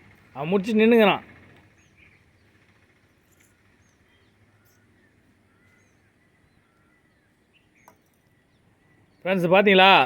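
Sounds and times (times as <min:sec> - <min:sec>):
faint bird chirps: 0:01.4 - 0:09.6.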